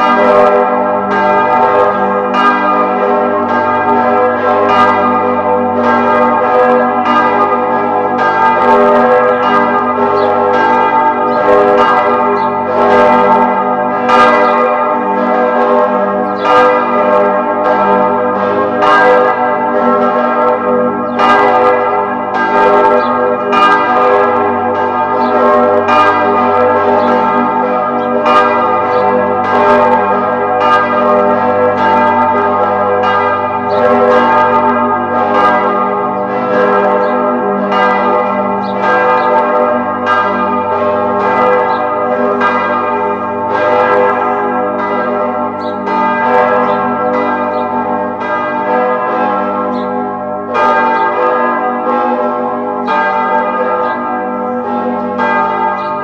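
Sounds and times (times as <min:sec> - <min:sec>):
church bells ringing in a peal: 0:00.0 - 0:56.0.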